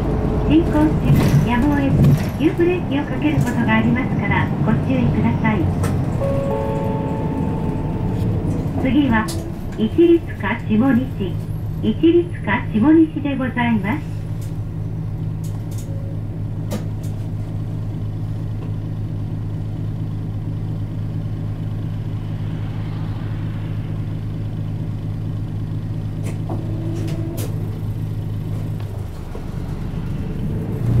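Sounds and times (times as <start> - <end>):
bus diesel engine idling: 0.0 - 31.0.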